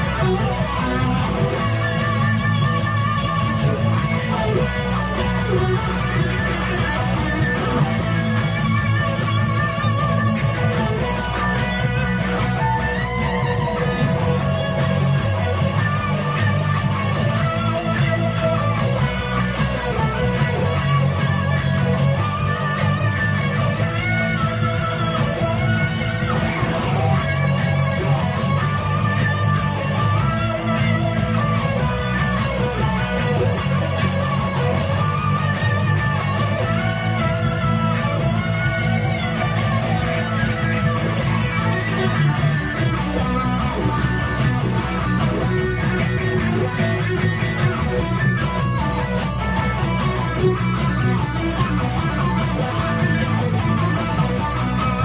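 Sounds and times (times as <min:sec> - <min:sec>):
electric guitar lead melody: 0:00.0 - 0:55.0
low bass accompaniment: 0:00.0 - 0:55.0.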